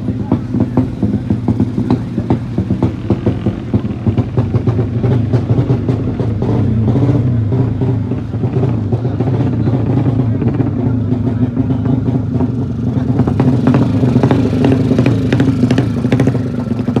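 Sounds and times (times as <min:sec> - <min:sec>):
motorcycle engine humming: 0:00.0 - 0:17.0.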